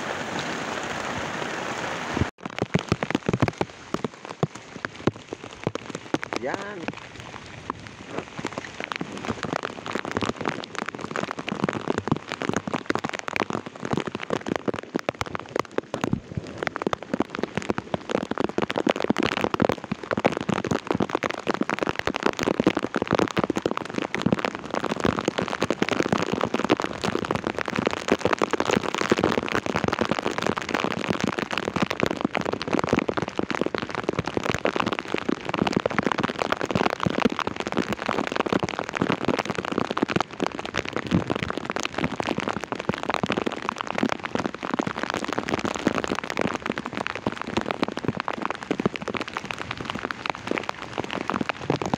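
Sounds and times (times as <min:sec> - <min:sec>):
heavy rain pelting down: 0:00.0 - 0:51.9.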